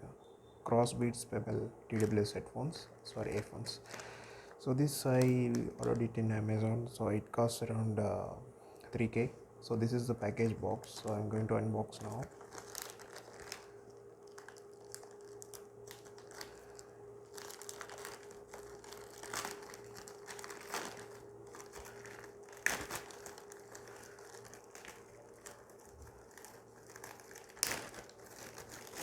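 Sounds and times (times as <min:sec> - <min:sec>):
faint steady hum: 0:00.0 - 0:29.0
packaging crinkling and rustling: 0:01.3 - 0:06.7, 0:09.0 - 0:29.0.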